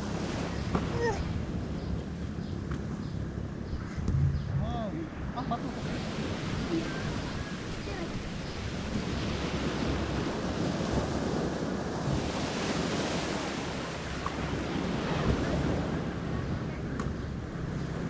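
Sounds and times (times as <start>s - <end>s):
sea surf: 0.0s - 2.2s, 4.6s - 18.0s
wind blowing on microphone: 3.5s - 18.0s.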